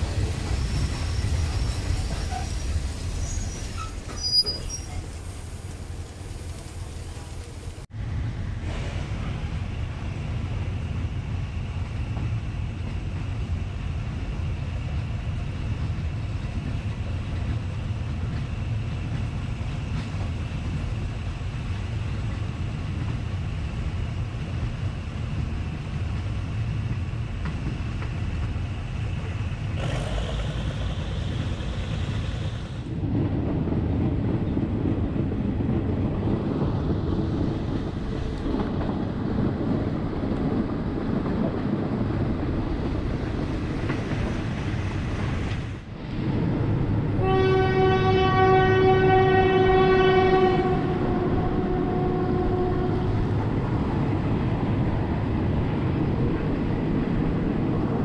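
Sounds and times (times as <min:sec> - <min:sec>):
train wheels rumbling on rails: 0:00.0 - 0:58.0
wind noise: 0:00.0 - 0:58.0.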